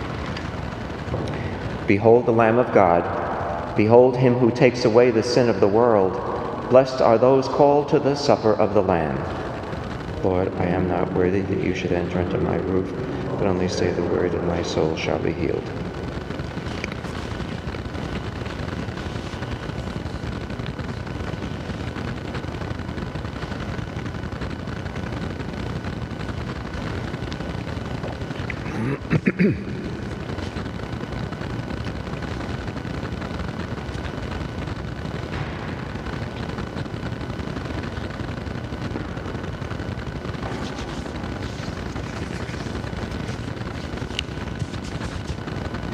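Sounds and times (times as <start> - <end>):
room noise hiss and rumble: 0.0 - 45.9.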